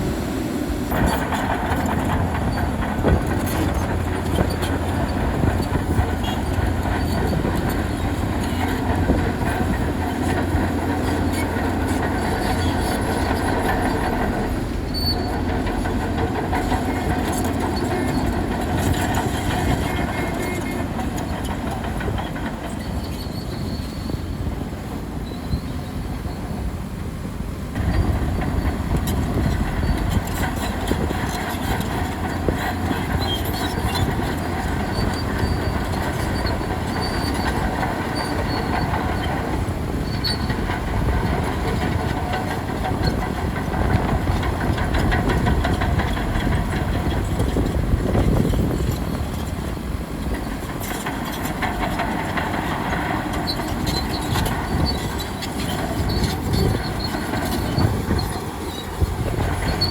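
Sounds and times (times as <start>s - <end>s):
bulldozer diesel engine: 0.0s - 59.9s
crawler tracks clanking: 0.0s - 59.9s.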